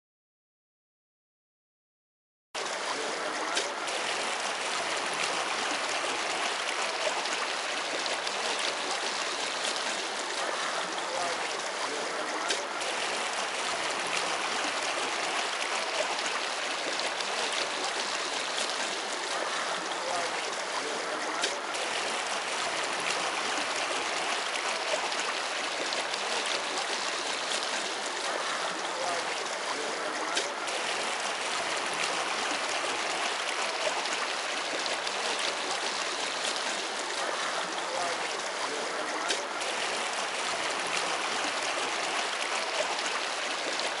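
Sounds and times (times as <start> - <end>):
water washing along boat hull: 2.6 - 44.0.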